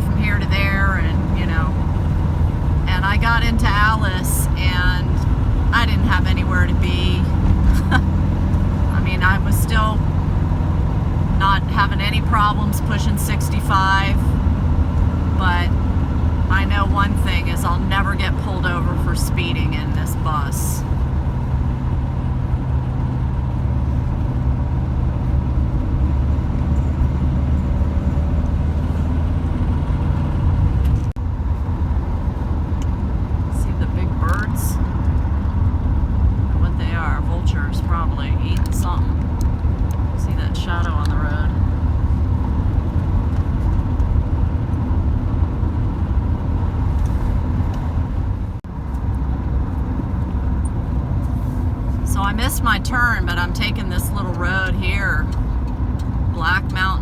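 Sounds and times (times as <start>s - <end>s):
road noise: 0.0s - 57.0s
van engine drone: 0.0s - 57.0s.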